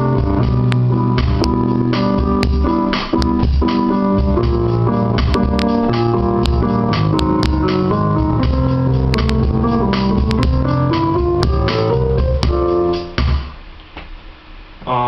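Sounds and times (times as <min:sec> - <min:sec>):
digital piano bossa nova pattern: 0:00.0 - 0:13.6.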